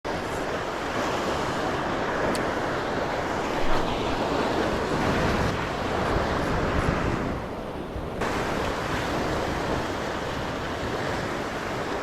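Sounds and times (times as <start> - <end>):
sea waves washing on shore: 0.1 - 12.0
wind rumbling on microphone: 0.1 - 12.0.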